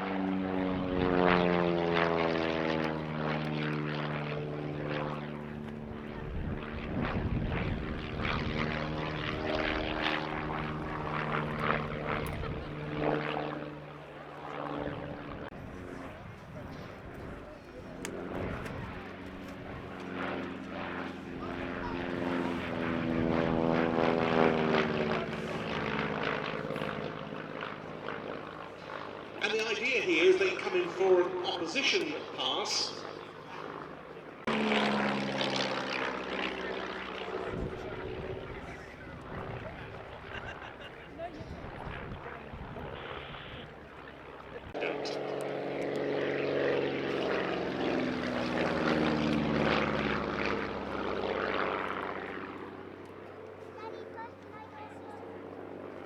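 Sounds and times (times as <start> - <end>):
propeller aircraft flying past: 0.0 - 56.0.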